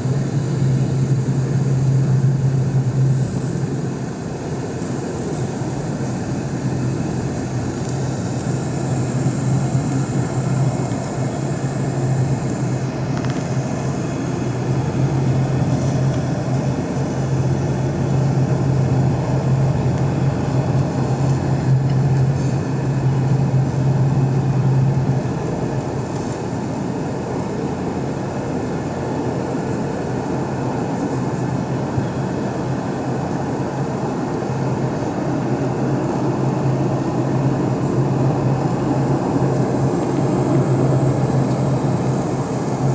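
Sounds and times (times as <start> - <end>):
jet engines low hum: 0.0 - 42.9.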